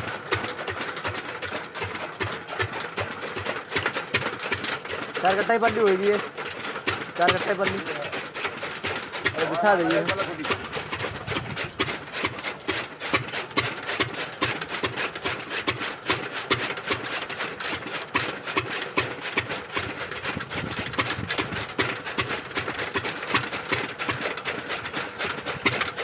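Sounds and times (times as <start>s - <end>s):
engine driving chaff cutter clatter: 0.0s - 26.0s.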